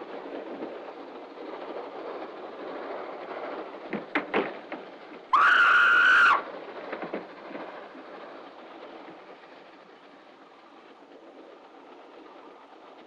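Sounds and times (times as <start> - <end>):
moving train rumble: 0.0 - 13.0.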